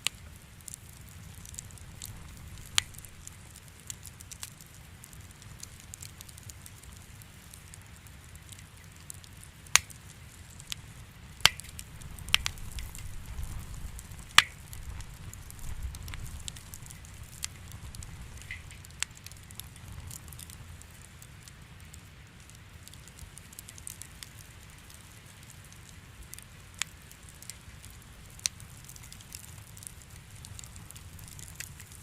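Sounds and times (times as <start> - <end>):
fire crackling and popping: 0.0 - 32.0
low fire rumble: 0.0 - 32.0.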